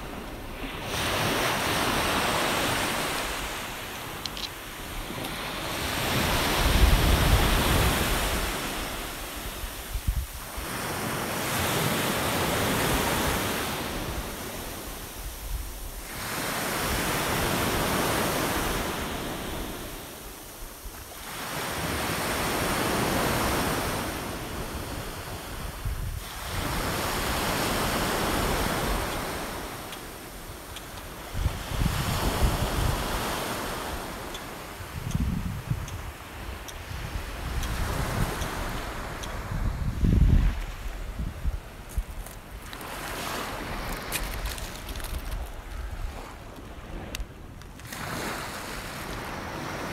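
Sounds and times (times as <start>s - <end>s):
waves washing on pebble beach: 0.0s - 49.9s
wind buffeting microphone: 0.0s - 49.9s.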